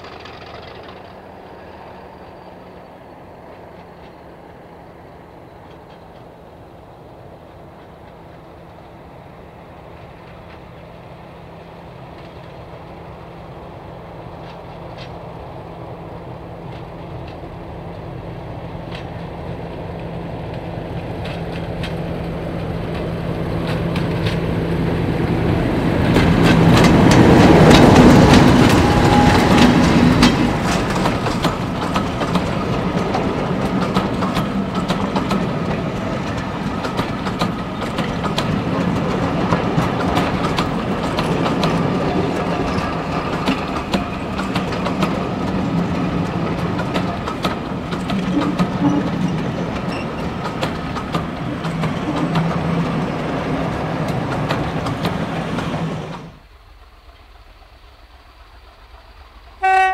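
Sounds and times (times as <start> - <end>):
diesel locomotive engine: 0.0 - 59.9
train wheels clickety-clack: 0.0 - 59.9.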